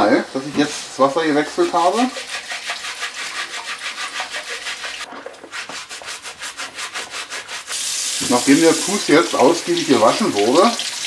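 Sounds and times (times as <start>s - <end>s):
stiff brush scrubbing in water: 1.6s - 10.7s.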